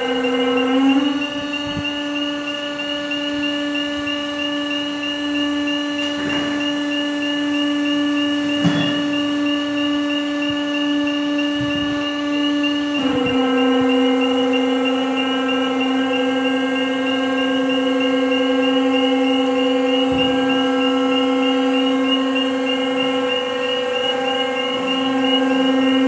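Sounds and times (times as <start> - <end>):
machine motor humming: 0.0 - 26.0.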